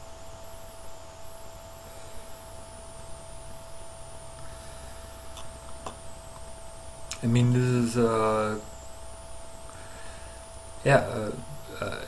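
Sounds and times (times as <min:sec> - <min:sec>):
electrical hum: 0:00.0 - 0:12.0
low background hiss: 0:00.0 - 0:12.0
wavering high whine: 0:00.0 - 0:12.0.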